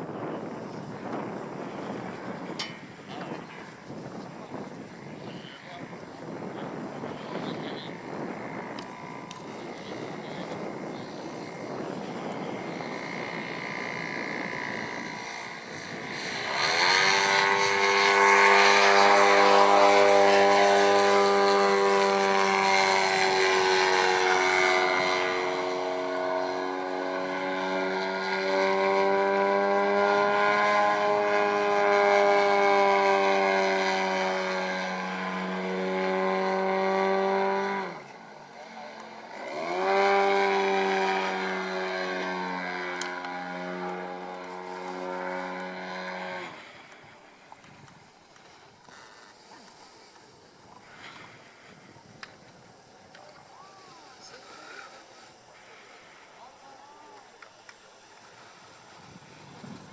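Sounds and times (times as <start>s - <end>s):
model airplane engine running: 0.0s - 59.9s.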